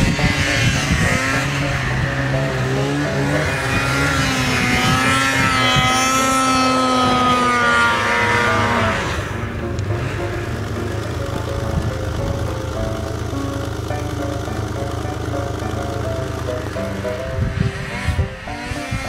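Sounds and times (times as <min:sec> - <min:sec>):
snowmobile engine revving: 0:00.0 - 0:19.0.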